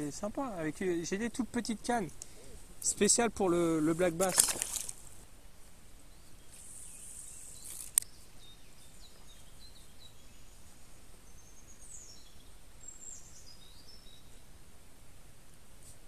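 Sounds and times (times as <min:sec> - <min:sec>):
small birds chirping: 0:00.0 - 0:05.1, 0:05.9 - 0:14.6.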